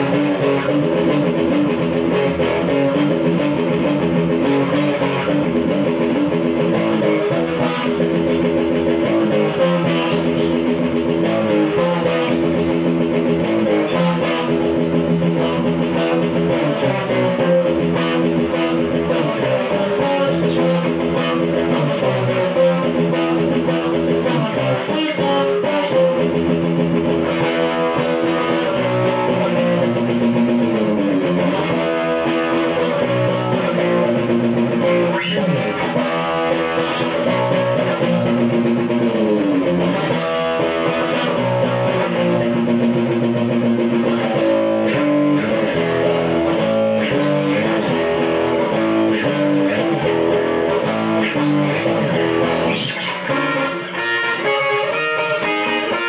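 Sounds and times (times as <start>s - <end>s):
electric guitar rock riff: 0.0s - 56.0s.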